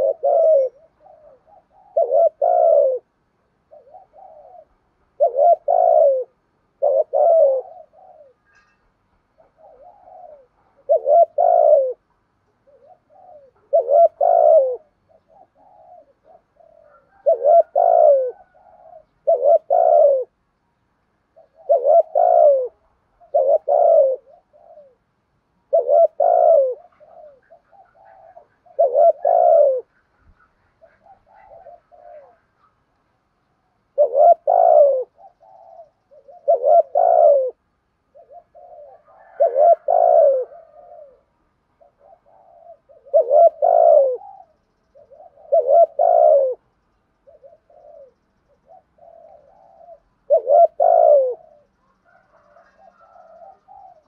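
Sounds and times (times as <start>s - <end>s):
dove cooing: 0.0s - 20.4s, 21.2s - 54.0s.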